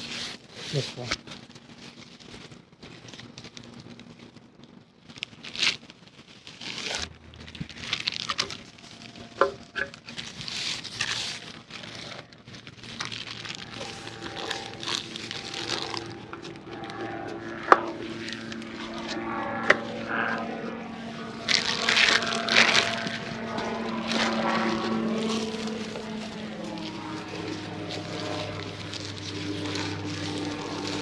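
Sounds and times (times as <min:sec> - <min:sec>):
kite and plastic wrapping rustling: 0:00.0 - 0:31.0.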